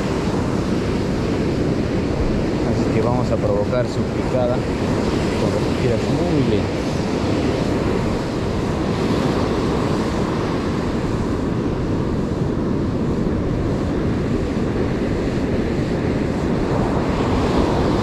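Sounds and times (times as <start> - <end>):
ocean surf: 0.0 - 18.0
wind buffeting microphone: 0.0 - 18.0.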